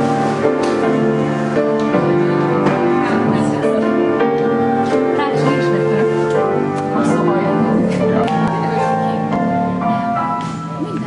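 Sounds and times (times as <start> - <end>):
piano melody over chords: 0.0 - 11.0.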